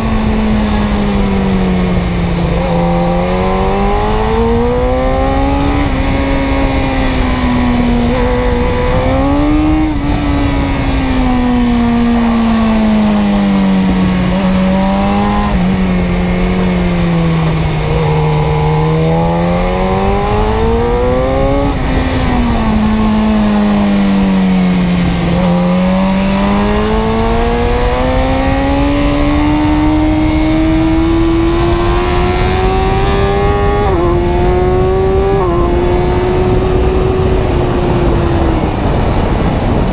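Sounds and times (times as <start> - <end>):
car engine revving high: 0.0 - 39.9.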